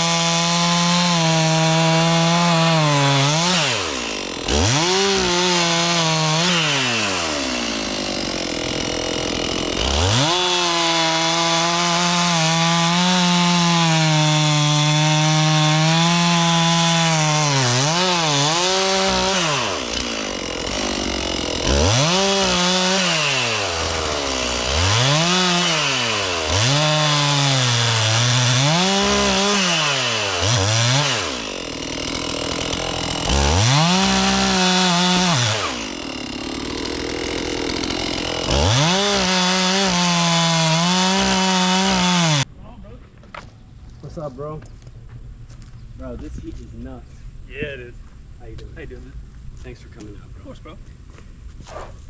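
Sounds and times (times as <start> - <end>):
chainsaw cutting wood: 0.0 - 42.5.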